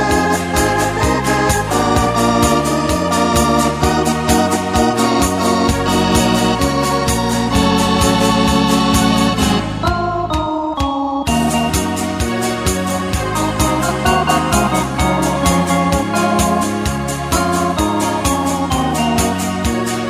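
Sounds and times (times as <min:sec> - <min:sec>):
electric organ background music: 0:00.0 - 0:20.0.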